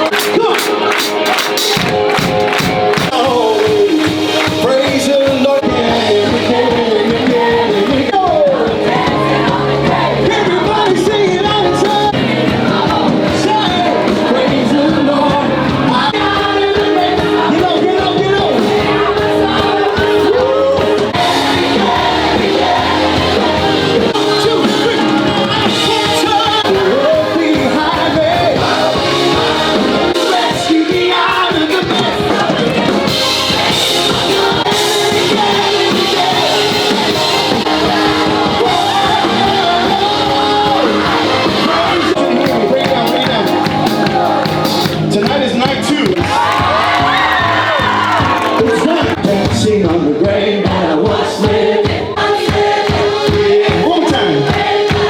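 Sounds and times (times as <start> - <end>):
crowd singing and shouting: 0.0 - 55.0
live band with singing: 0.0 - 55.0.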